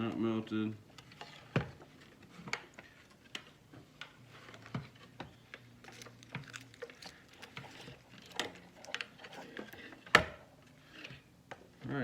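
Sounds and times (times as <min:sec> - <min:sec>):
small clicks and rustling of wiring: 0:00.9 - 0:11.6.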